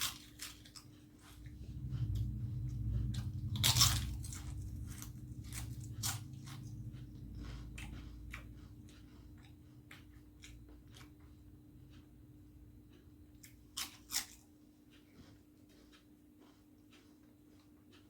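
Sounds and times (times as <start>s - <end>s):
person chewing crunchy food: 0.0s - 12.0s, 13.0s - 18.0s.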